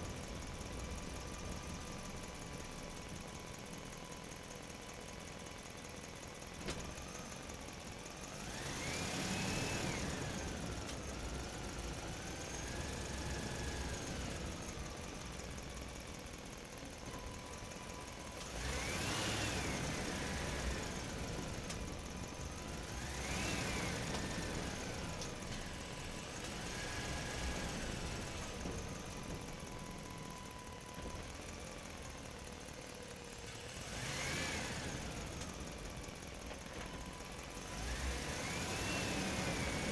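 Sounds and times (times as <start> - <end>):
truck engine in parking structure: 0.0 - 39.9.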